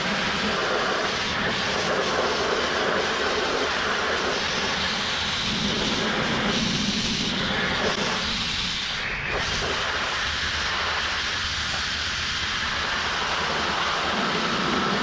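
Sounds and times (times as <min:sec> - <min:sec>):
abrasive blast nozzle hissing: 0:00.0 - 0:15.0.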